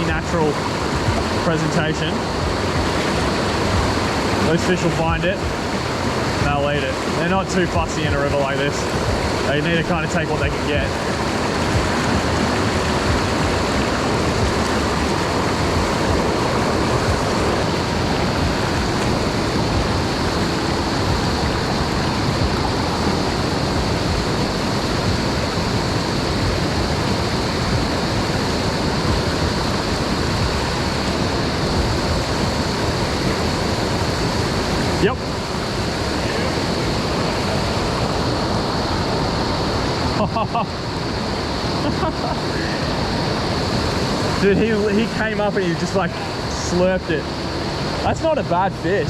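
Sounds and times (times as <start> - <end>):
stream pouring over rocks: 0.0 - 41.7, 42.4 - 49.0
cicadas droning: 0.0 - 49.0.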